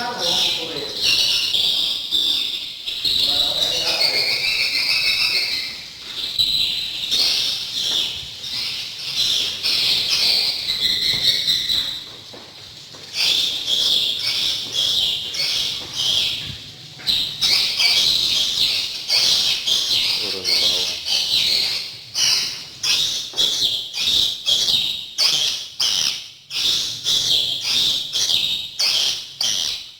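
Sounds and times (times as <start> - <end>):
swiftlets chirping and twittering: 0.0 - 12.2, 13.0 - 29.9.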